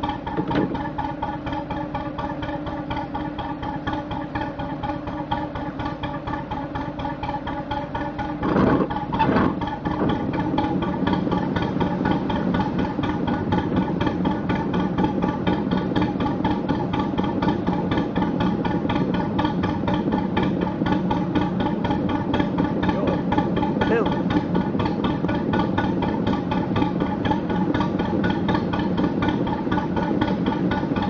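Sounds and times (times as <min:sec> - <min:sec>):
diesel boat engine running: 0:00.0 - 0:31.0.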